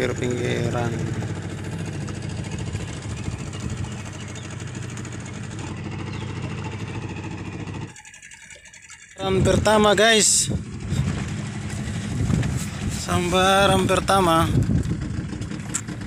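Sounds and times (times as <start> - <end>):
small outboard motor running: 0.0 - 16.0.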